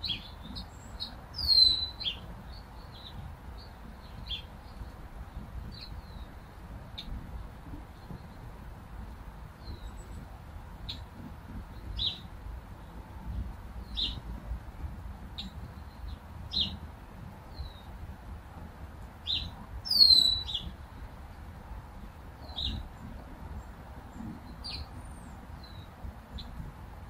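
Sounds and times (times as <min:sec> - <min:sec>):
small birds chirping: 0:00.0 - 0:14.4, 0:15.2 - 0:18.0, 0:19.2 - 0:26.7.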